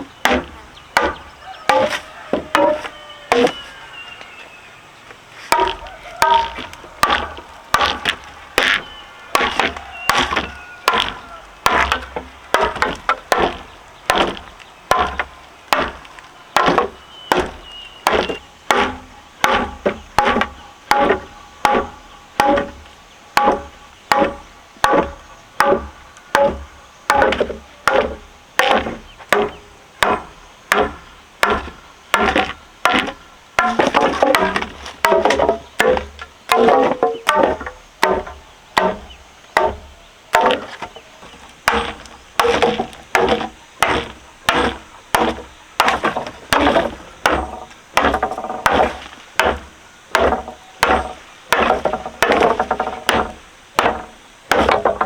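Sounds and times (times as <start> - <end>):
blade chopping wood: 0.0 - 3.6, 5.5 - 55.0.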